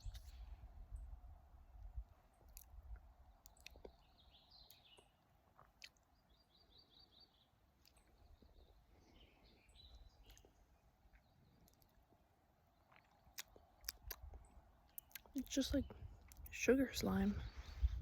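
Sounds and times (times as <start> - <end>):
faint bird chirps: 1.9 - 13.4, 14.4 - 18.0.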